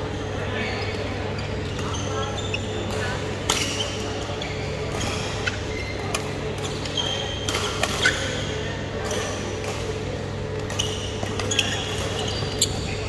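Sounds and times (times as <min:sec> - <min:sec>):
shoes squeaking on court: 0:00.6 - 0:13.0.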